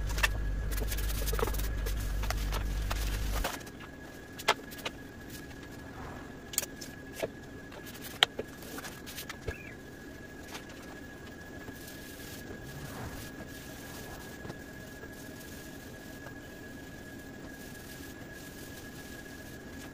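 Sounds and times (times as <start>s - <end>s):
faint high whine: 0.0s - 19.9s.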